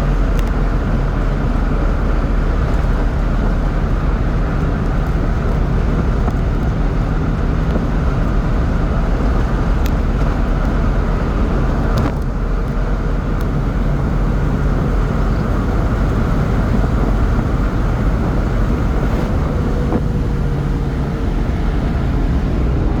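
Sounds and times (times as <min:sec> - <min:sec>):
small truck engine at high revs: 0:00.0 - 0:23.0
wind and road noise: 0:00.0 - 0:23.0.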